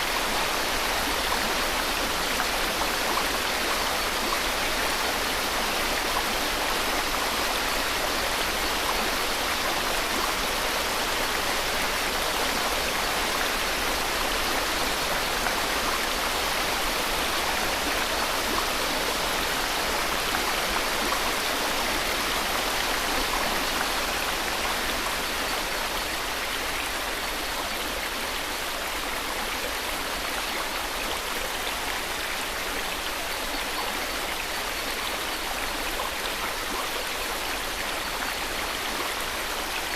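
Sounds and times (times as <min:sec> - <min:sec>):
steady white-noise hiss: 0:00.0 - 0:39.9.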